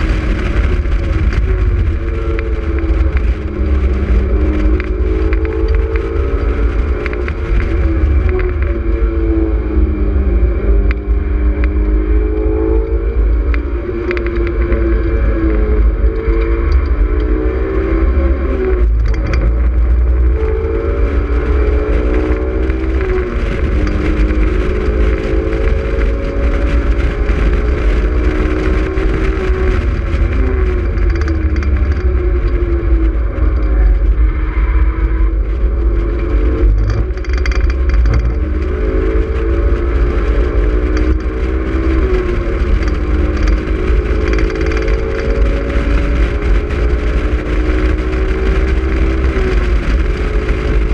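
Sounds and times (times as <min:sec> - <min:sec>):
sports car engine revving: 0:00.0 - 0:50.9
wind rumble: 0:00.0 - 0:50.9.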